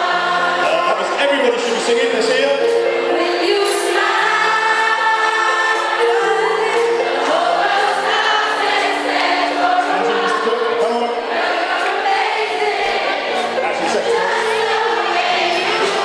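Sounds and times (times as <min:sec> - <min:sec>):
choir singing: 0:00.0 - 0:16.0
musical accompaniment: 0:00.0 - 0:16.0.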